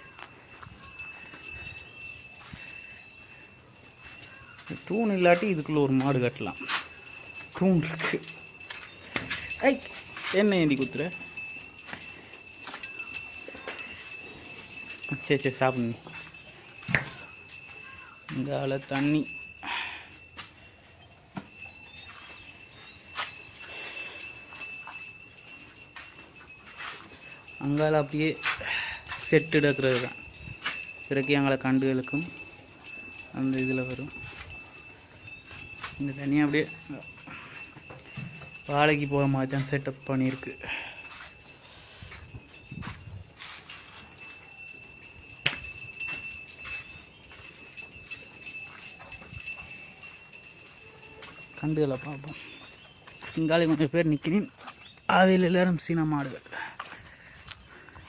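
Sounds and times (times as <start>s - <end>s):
cattle bells jingling: 0.0s - 58.0s.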